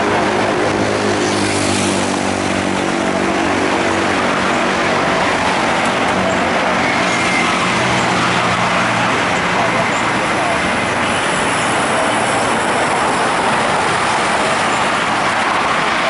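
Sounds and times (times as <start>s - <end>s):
road traffic noise: 0.0s - 16.0s
vehicle engine humming: 0.0s - 16.0s.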